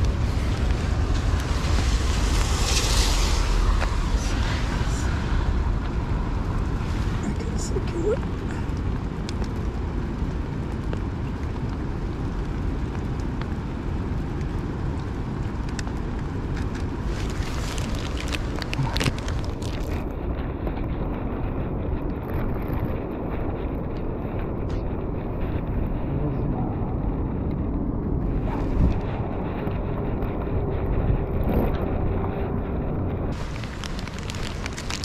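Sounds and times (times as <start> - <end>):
traffic on wet street: 0.0 - 35.0
wind buffeting microphone: 0.0 - 35.0.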